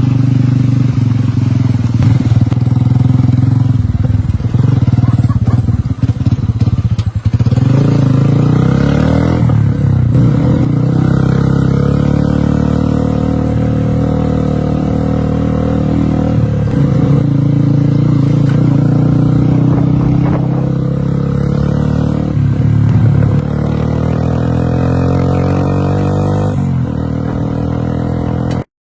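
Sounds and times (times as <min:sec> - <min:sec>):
motorcycle engine shifting gears: 0:00.0 - 0:28.7.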